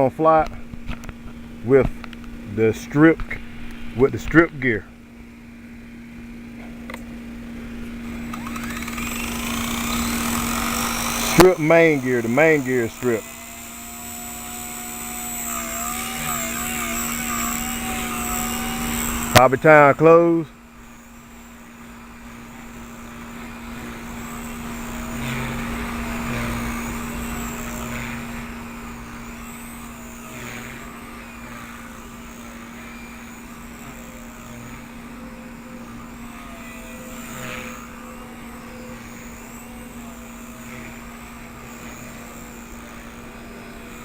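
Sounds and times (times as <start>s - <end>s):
helicopter motor and rotor whine: 0.0s - 44.0s.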